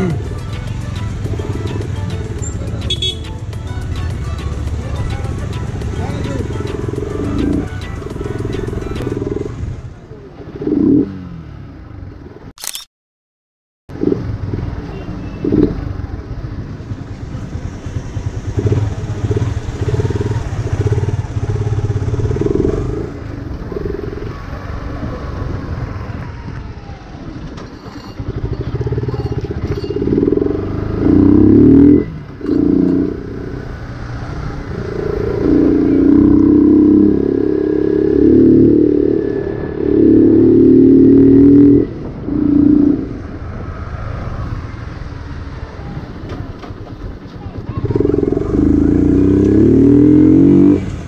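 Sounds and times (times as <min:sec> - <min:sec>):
motorcycle engine revving: 0:00.0 - 0:12.5, 0:13.9 - 0:51.0.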